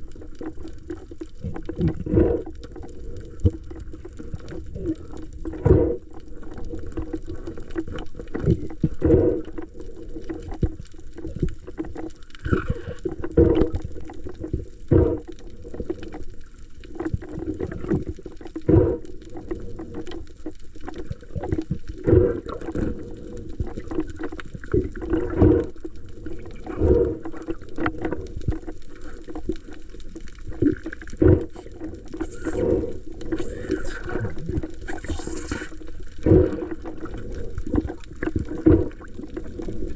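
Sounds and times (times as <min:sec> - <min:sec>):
water sloshing and splashing: 0:00.0 - 0:39.9.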